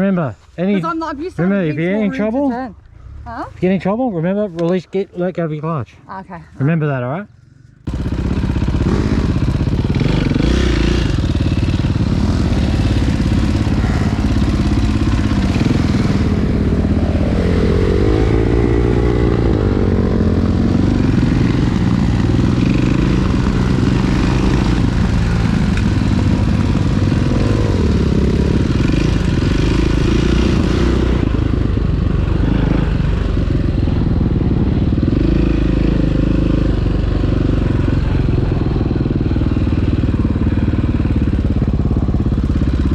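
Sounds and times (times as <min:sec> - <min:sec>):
dirt bike engine revving: 0:07.9 - 0:42.9.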